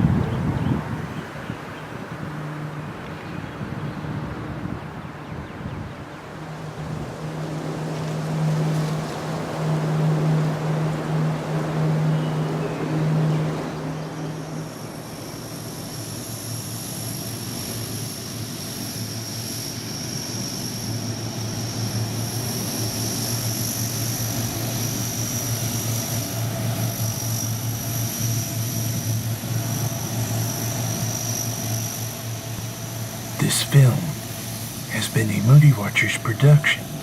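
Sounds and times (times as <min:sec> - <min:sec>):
aircraft engines droning and whining: 0:00.0 - 0:37.0.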